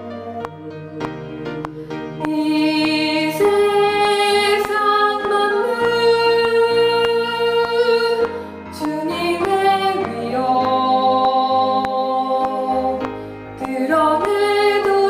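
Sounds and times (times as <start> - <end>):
piano playing repeated chords: 0.0 - 15.0
soprano singing a hymn: 0.0 - 15.0.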